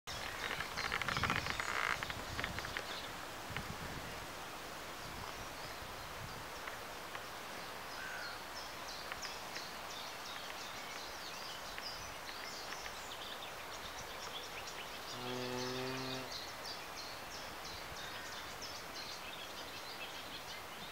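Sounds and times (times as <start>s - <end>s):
small birds chirping: 0.1s - 3.2s, 5.0s - 20.9s
steady background hiss: 0.1s - 20.9s.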